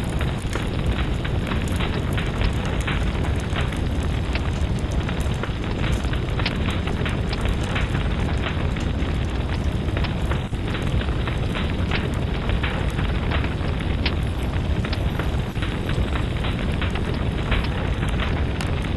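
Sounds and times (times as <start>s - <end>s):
fireplace fire crackling: 0.0s - 18.9s
sharp pops and snaps: 0.0s - 18.9s.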